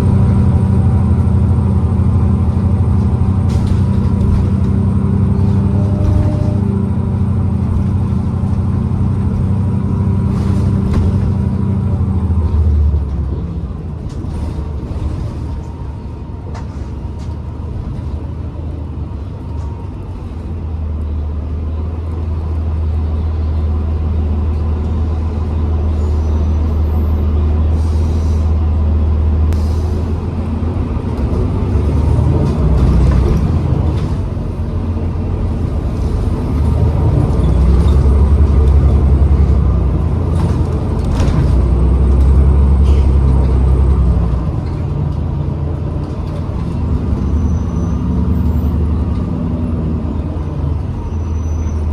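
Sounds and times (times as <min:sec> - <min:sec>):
bus drivetrain humming: 0:00.0 - 0:51.9.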